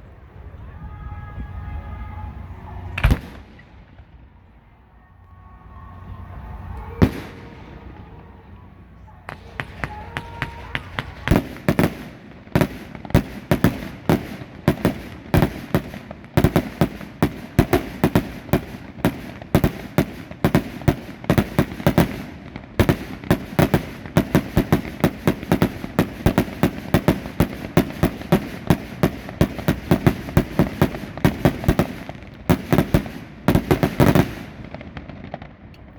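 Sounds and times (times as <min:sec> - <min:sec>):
fireworks bursting: 0:02.1 - 0:04.6, 0:05.9 - 0:35.9.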